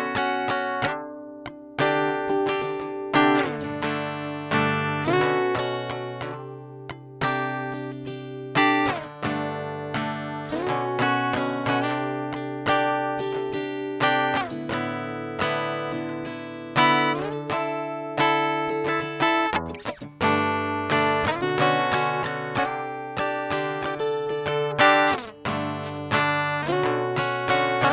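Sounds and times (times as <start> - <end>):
acoustic guitar melody: 0.0 - 27.9.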